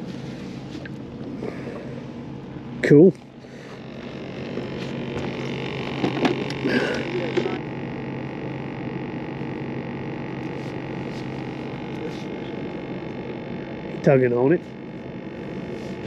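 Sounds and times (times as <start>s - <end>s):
motor humming steadily: 0.0s - 16.0s.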